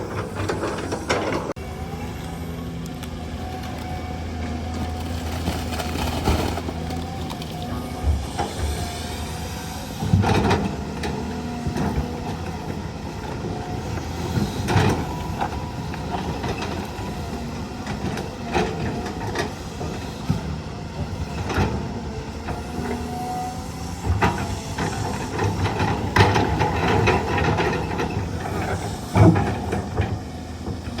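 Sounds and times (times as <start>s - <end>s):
heavy diesel engines running: 0.0s - 31.0s.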